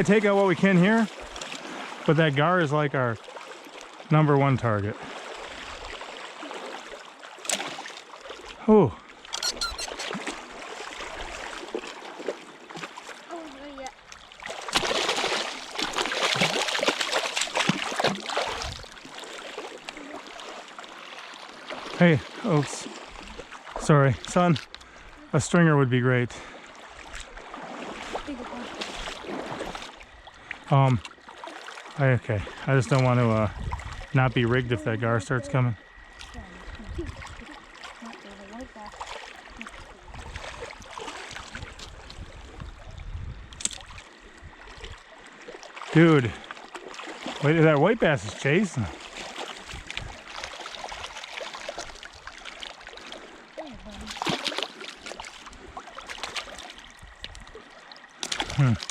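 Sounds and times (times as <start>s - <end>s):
water splashing and sloshing: 0.0s - 58.9s
water trickling: 5.1s - 58.9s.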